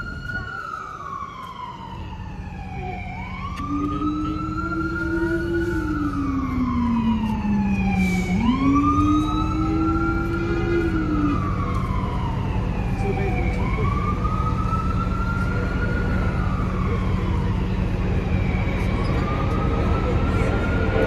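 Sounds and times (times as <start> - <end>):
emergency siren wailing: 0.0 - 21.0
lower siren tone: 0.0 - 21.0
street traffic and bus engines: 0.0 - 21.0.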